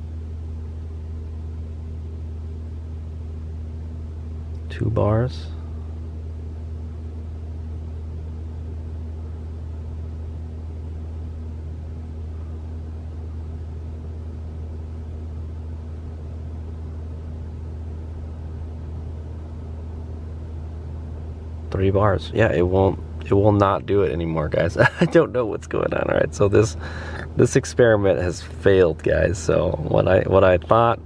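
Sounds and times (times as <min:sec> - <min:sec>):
cabin fan blowing: 0:00.0 - 0:31.0
heat pump humming: 0:00.0 - 0:31.0.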